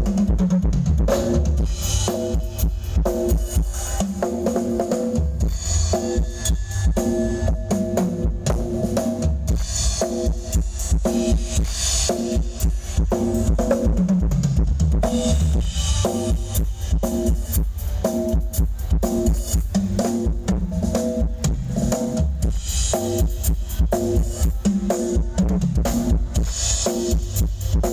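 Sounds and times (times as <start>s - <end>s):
drum kit beat: 0.0s - 27.9s.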